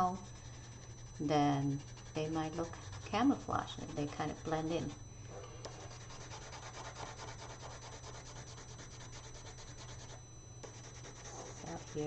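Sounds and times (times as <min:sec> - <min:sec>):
pencil scratching on paper: 0:00.0 - 0:05.0, 0:05.7 - 0:12.0.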